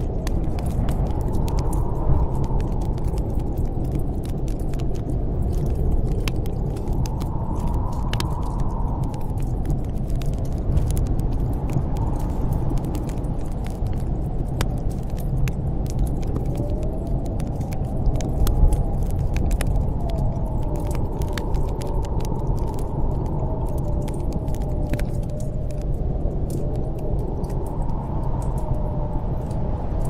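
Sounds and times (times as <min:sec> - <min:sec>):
wind whistling: 0:00.0 - 0:30.0
wood fire crackling: 0:00.0 - 0:30.0.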